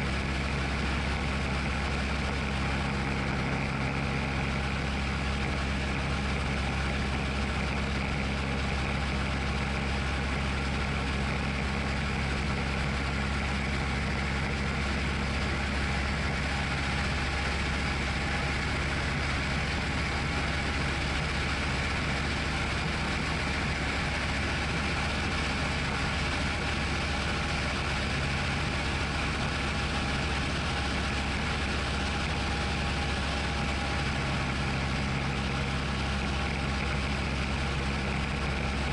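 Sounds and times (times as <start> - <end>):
aircraft engine drone in cockpit: 0.0 - 38.9.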